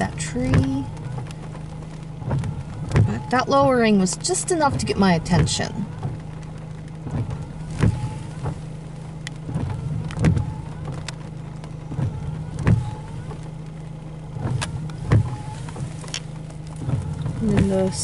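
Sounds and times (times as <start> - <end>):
car hum: 0.0 - 18.0
windshield wipers thumping and squeaking: 0.0 - 18.0.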